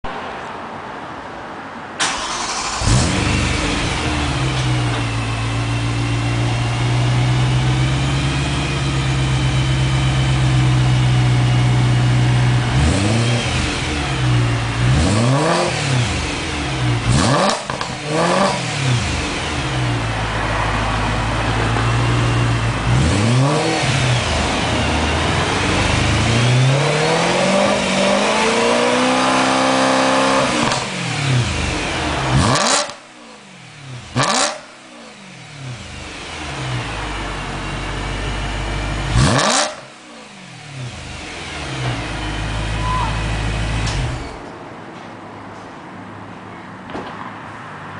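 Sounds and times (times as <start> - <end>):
car engine idling and revving: 2.0 - 44.6.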